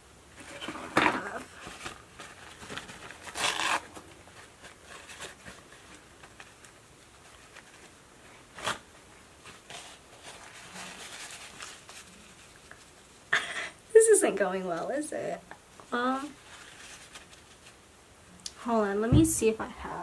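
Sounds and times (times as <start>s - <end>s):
rustle: 0.3s - 13.2s, 14.0s - 17.8s.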